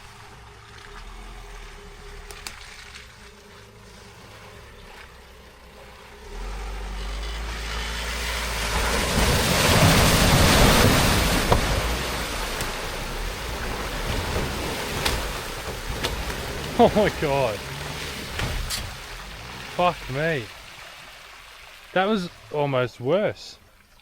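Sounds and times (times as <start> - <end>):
engine rumble: 0.0 - 24.0
water splashing: 0.0 - 24.0.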